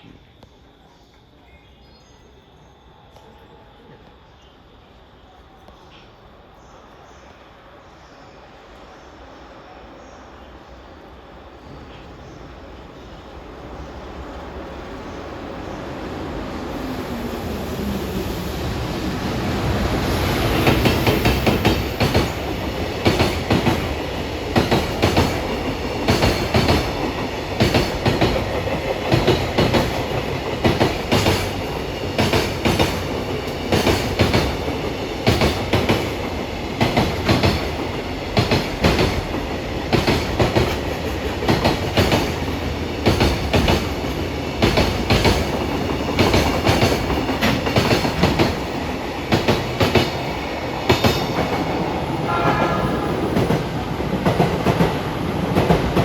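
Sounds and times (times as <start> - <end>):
train rumble: 3.2 - 56.0.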